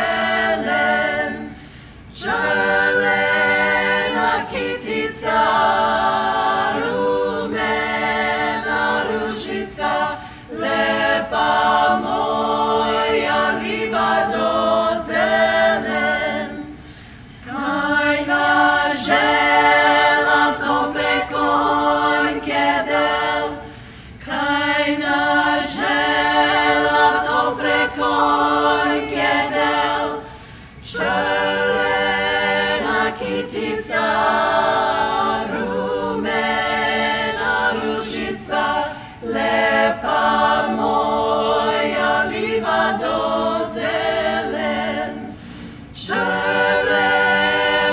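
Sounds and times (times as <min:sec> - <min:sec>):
women singing a cappella in harmony: 0:00.0 - 0:47.9.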